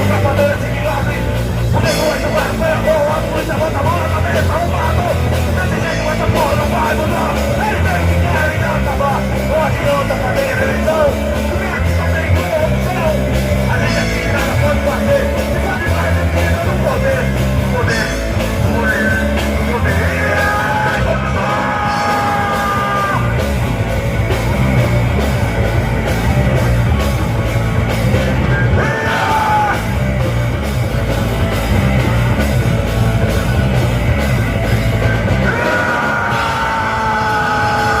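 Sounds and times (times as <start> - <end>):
shouted vocals: 0.0 - 27.5, 28.1 - 30.4, 34.8 - 38.0
live punk rock band: 0.0 - 38.0.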